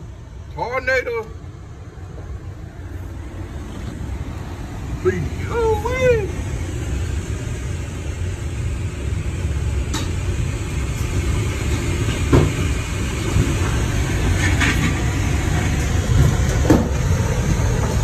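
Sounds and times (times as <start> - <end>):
tornado wind roaring: 0.0 - 18.0.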